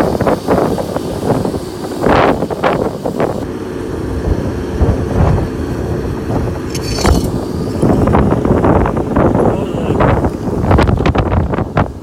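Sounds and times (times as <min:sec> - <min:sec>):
wind buffeting microphone: 0:00.0 - 0:03.5, 0:04.2 - 0:12.0.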